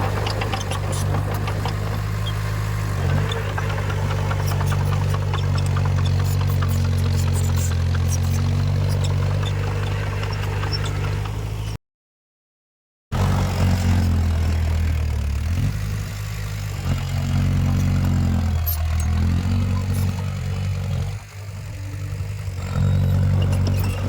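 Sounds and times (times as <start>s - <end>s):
heavy diesel machinery engine: 0.0s - 11.8s, 13.2s - 24.0s.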